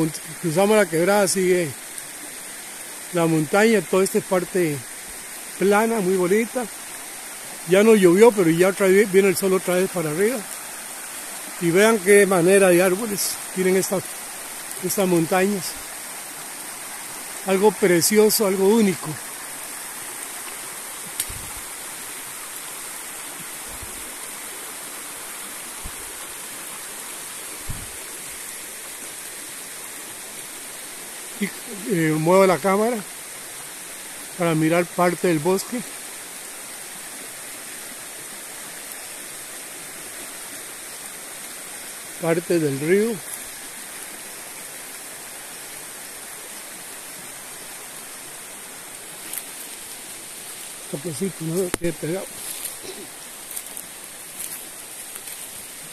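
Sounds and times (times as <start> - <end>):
forest creek rushing: 0.0 - 55.9
steady high hiss: 0.0 - 55.9.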